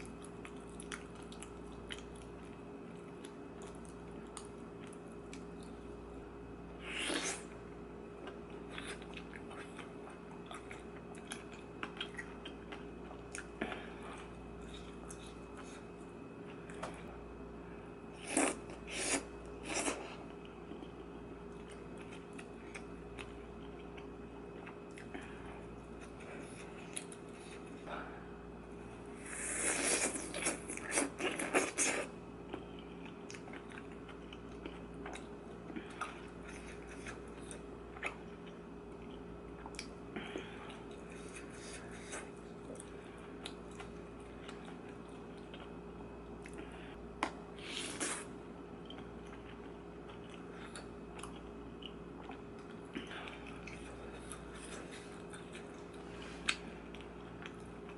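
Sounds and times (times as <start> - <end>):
person chewing food: 0.0 - 6.1, 6.8 - 17.4, 18.2 - 28.5, 29.2 - 57.9
faint steady hum: 0.0 - 57.9.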